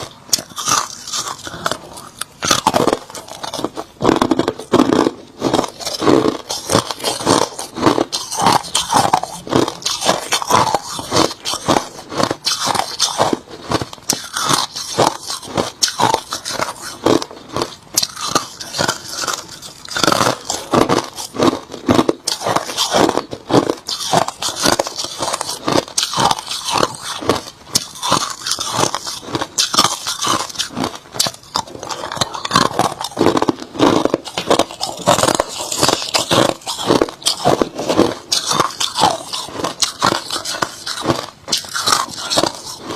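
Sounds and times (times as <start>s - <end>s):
person chewing crushed ice: 0.0s - 42.9s.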